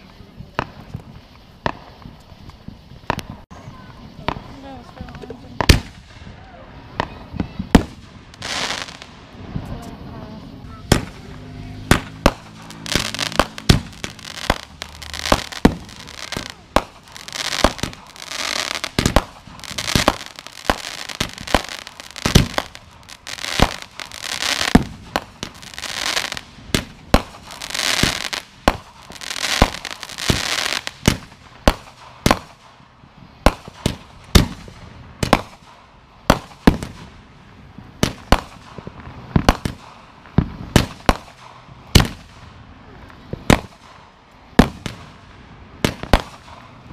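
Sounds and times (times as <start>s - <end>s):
fireworks bangs: 0.0s - 46.9s
fireworks hissing crackle: 0.0s - 46.9s.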